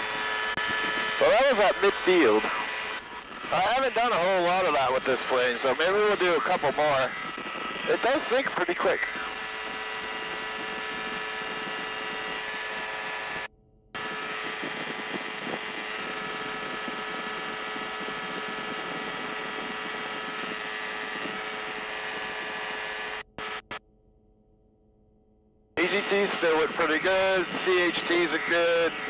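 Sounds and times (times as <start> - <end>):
ultralight engine and propeller droning: 0.0 - 23.9, 25.8 - 29.0.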